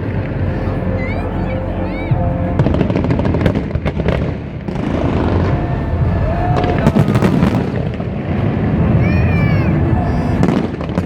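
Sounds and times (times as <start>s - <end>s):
fireworks booming rumble: 0.0s - 11.0s
fireworks crackling bangs: 0.0s - 11.0s.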